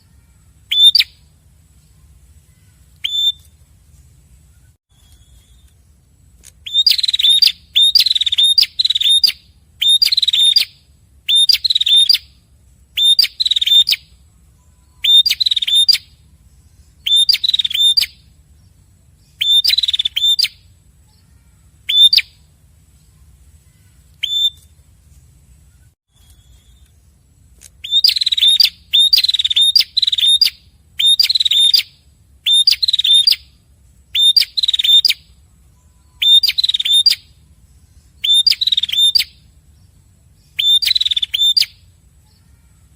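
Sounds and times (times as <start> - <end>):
birds calling sharp chirps: 0.0 - 42.9.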